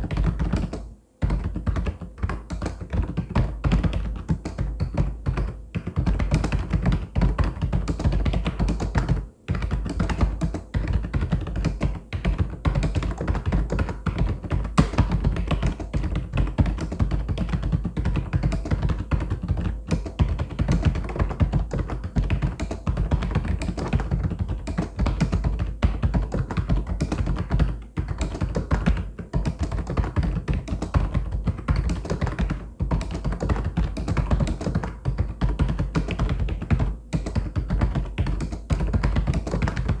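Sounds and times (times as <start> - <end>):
typing on mechanical keyboard: 0.0 - 40.0.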